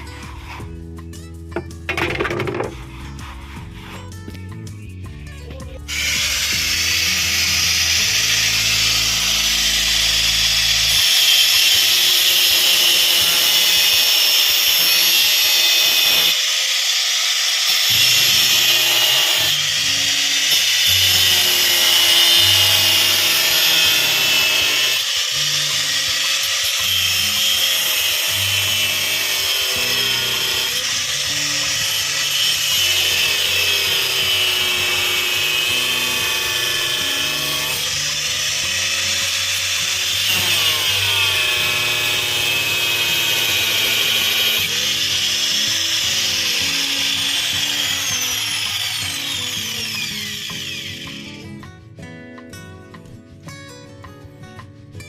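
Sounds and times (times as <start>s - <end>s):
background music: 0.0s - 16.5s, 17.6s - 55.0s
power tool cutting: 5.8s - 51.5s.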